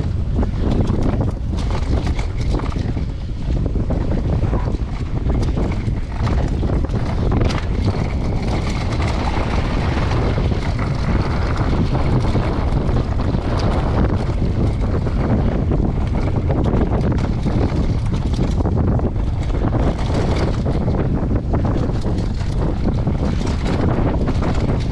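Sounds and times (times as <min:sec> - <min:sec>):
bike clicks and rattles: 0:00.0 - 0:24.9
tyres rumbling over dirt: 0:00.0 - 0:24.9
wind buffeting microphone: 0:00.0 - 0:24.9.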